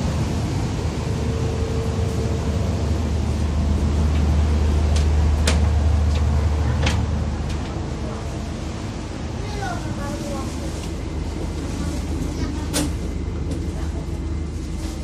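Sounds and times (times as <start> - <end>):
train machinery low drone: 0.0 - 15.0.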